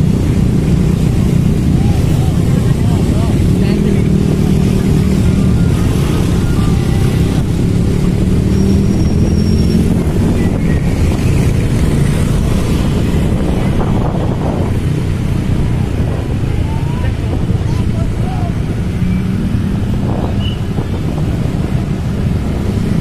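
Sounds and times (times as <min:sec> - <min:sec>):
motorcycle and scooter engines: 0:00.0 - 0:23.0
wind rumbling on microphone: 0:00.0 - 0:23.0.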